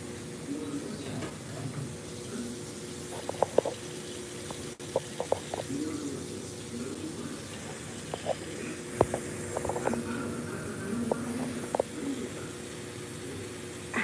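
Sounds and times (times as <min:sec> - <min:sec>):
steady low hum: 0:00.0 - 0:14.0
tap water running: 0:00.0 - 0:14.0.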